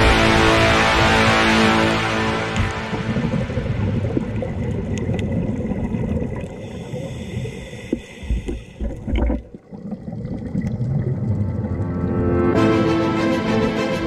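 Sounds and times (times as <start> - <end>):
low water surges: 0.0 - 12.0
underwater rumble of water: 0.0 - 12.2.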